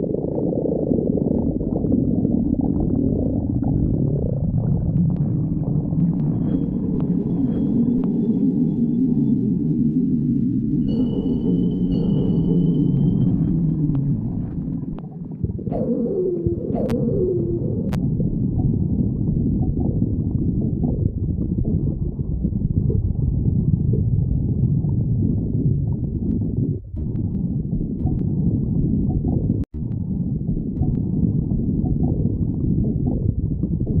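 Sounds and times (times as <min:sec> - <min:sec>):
stomach growling: 0:00.0 - 0:34.0.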